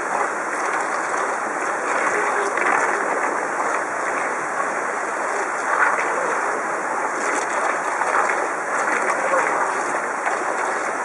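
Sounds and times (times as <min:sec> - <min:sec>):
water pouring over weir: 0:00.0 - 0:11.0.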